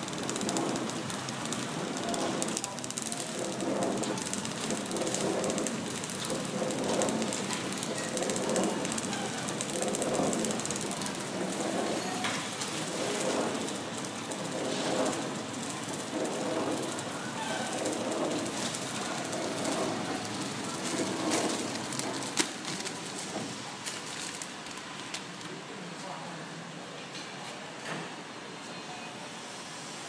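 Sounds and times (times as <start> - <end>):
packing machine clatter and hiss: 0.0 - 26.2.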